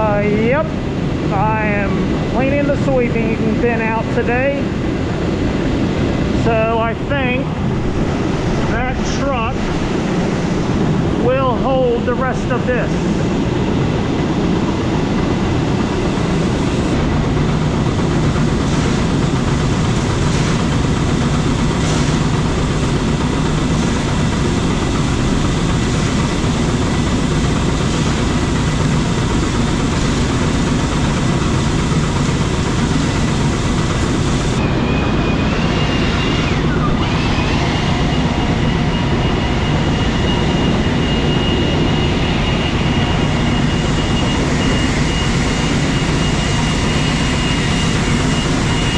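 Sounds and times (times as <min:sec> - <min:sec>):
farm machinery engine running: 0:00.0 - 0:48.9.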